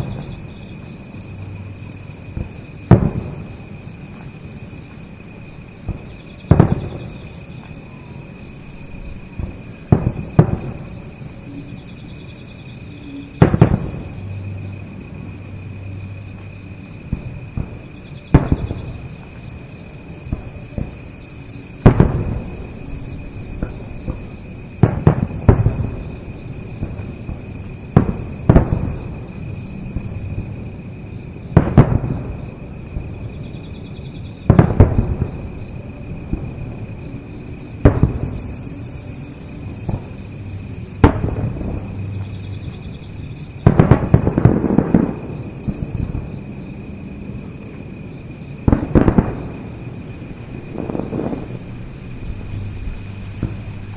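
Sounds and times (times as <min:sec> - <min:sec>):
firework shells booming: 0:00.0 - 0:08.0, 0:08.6 - 0:53.9
insect chirring: 0:00.0 - 0:53.9.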